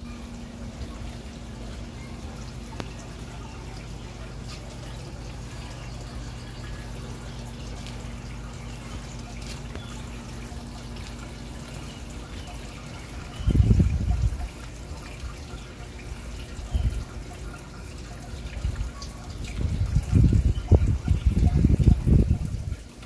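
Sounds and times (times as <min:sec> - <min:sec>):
steady low hum: 0:00.0 - 0:23.0
water trickling and dripping: 0:00.0 - 0:23.0.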